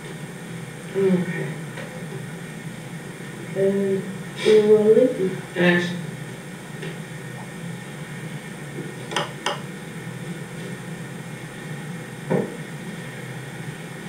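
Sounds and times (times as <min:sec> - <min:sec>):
low hum of room noise: 0:00.0 - 0:14.0.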